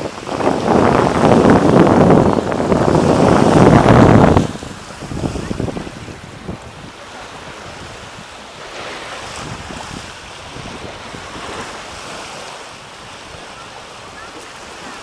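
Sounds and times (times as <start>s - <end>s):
waves lapping on sandy beach: 0.0s - 15.0s
wind rumbling on microphone: 0.0s - 15.0s.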